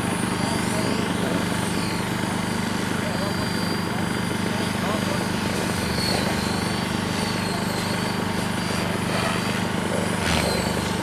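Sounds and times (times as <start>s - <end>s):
high motor whine: 0.0s - 11.0s
rc helicopter rotor buzz: 0.0s - 11.0s.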